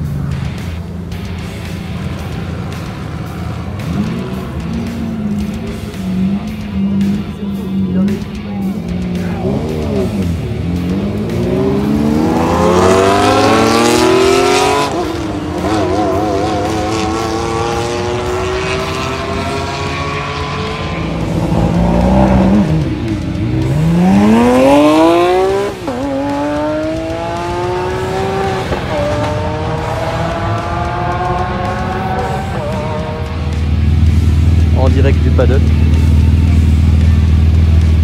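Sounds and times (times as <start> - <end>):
supercar engines accelerating: 0.0 - 38.0.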